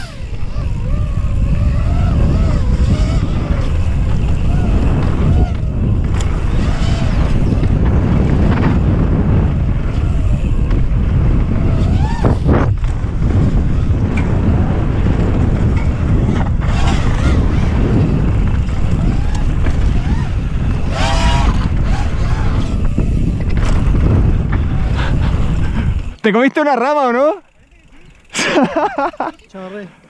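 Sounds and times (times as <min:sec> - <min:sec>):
quadcopter motors whining: 0:00.0 - 0:26.2
wind buffeting microphone: 0:00.0 - 0:26.2.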